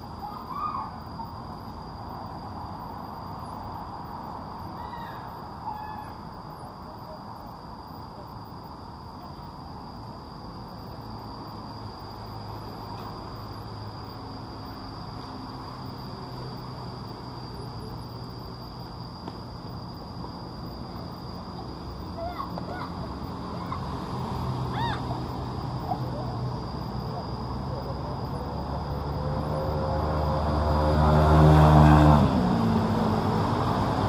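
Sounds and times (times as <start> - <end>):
insect drone: 0.0 - 34.0.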